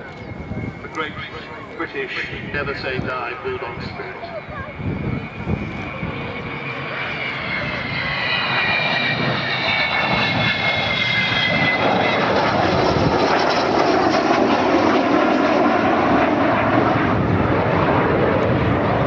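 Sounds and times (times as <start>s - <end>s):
high whistling jet tones: 0.0s - 19.0s
loud jet roar: 0.0s - 19.0s.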